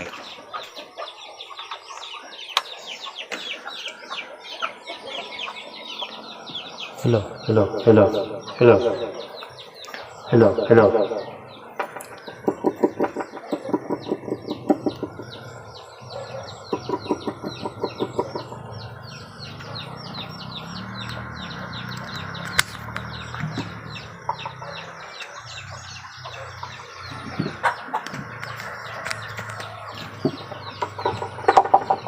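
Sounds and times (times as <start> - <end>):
high bird chirping: 0.0 - 32.0
rhythmic bird clucking: 0.0 - 32.0.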